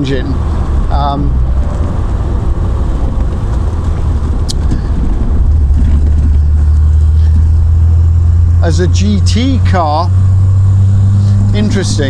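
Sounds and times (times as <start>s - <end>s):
car engine drone: 0.0s - 12.0s
road noise: 0.0s - 12.0s
wind noise: 0.0s - 12.0s.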